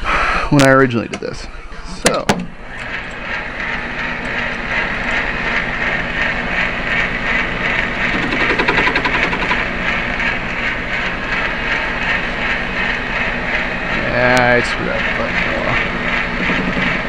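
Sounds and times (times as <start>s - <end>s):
metal lathe humming: 1.3s - 17.0s
rough rapid rattling: 2.2s - 17.0s.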